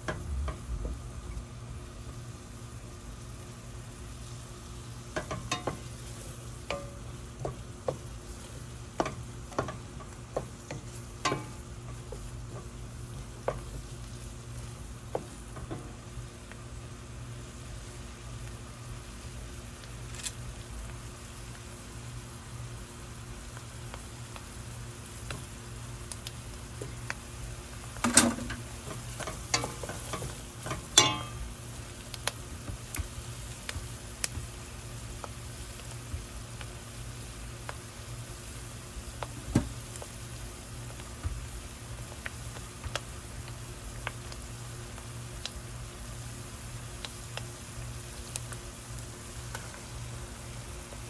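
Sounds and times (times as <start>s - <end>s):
food sizzling in frying pan: 0.0s - 51.0s.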